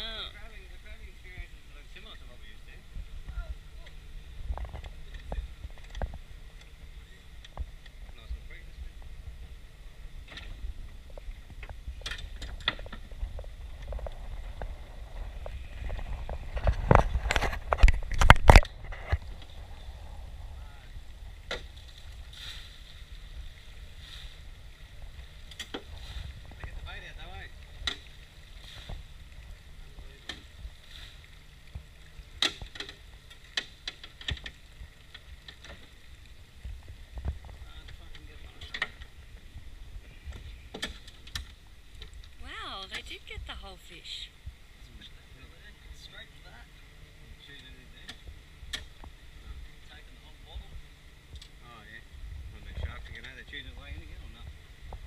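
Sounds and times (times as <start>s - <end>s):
low steady rumble: 0.0s - 55.0s.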